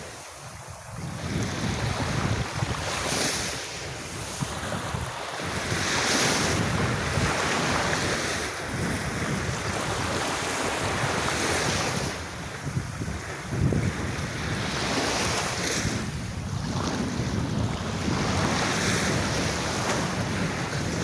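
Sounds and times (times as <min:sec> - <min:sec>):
sea waves washing onto beach: 0:00.0 - 0:21.0
wind rumbling on microphone: 0:00.0 - 0:21.0.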